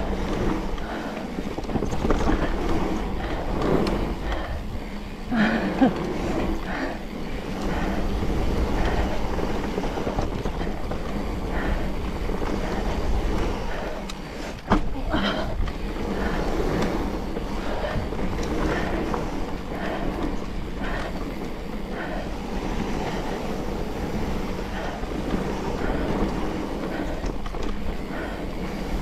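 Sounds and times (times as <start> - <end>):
bike rattling: 0.0 - 29.0
bike tyres rumbling on dirt: 0.0 - 29.0.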